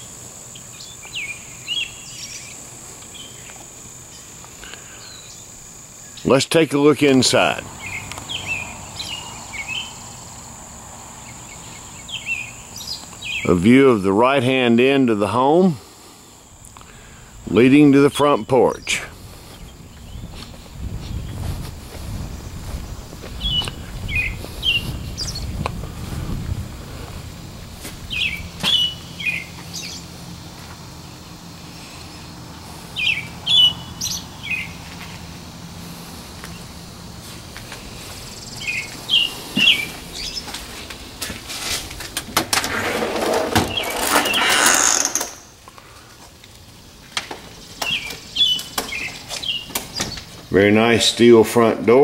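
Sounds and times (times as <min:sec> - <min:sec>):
songbird chirping: 0:00.0 - 0:15.6, 0:16.2 - 0:25.8, 0:27.5 - 0:41.4, 0:43.5 - 0:52.0.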